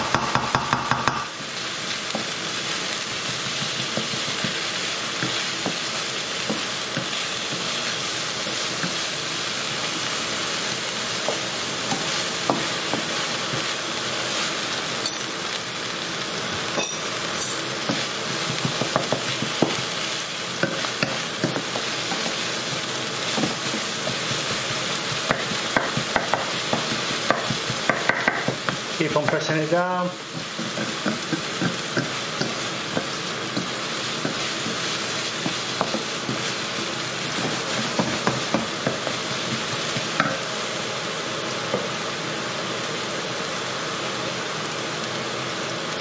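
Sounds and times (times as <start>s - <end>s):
onion sizzling in oil: 0.0s - 46.0s.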